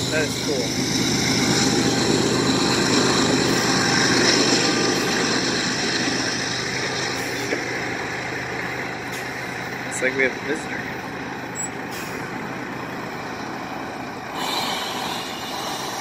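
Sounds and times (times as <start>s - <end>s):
freight train moving: 0.0s - 16.0s.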